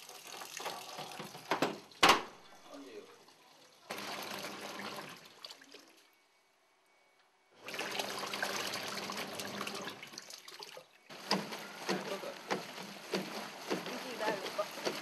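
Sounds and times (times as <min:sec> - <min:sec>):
water splashing and trickling: 0:00.0 - 0:06.2, 0:07.6 - 0:15.0.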